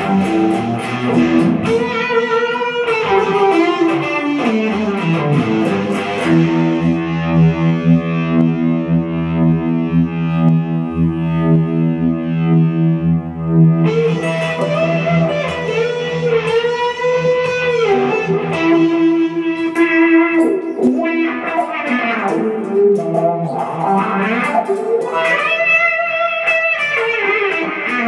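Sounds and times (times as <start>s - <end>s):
electric guitar chord ringing: 0.0s - 28.0s
electric guitar lead with bends: 0.0s - 28.0s.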